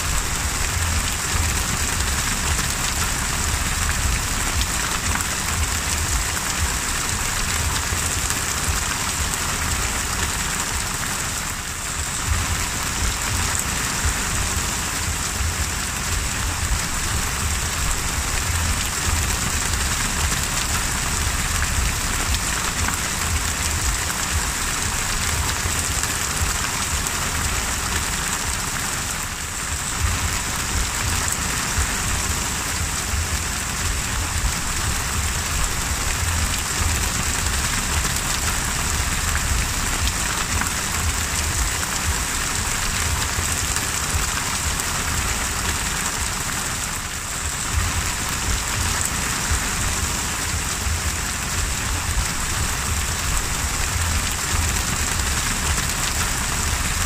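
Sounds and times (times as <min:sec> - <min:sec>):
low rumble: 0:00.0 - 0:46.6, 0:47.2 - 0:57.0
heavy rain on the sea: 0:00.0 - 0:57.0.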